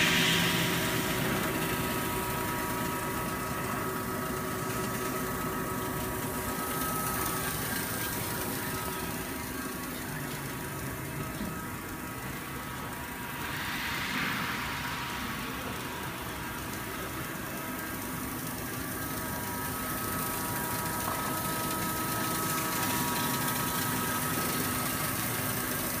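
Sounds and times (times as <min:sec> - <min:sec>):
hiss: 0:00.0 - 0:26.0
laser cutting machine humming: 0:00.0 - 0:26.0
thin whining tones: 0:00.0 - 0:26.0.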